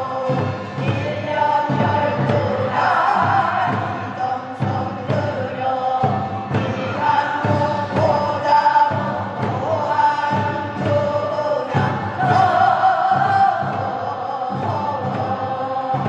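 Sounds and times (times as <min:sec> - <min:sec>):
group singing in unison: 0:00.0 - 0:16.0
steady drum beat: 0:00.0 - 0:16.0.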